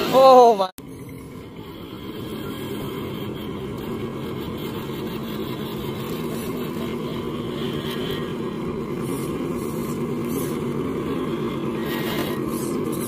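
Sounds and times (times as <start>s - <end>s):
electric motor whirring: 0.8s - 13.0s.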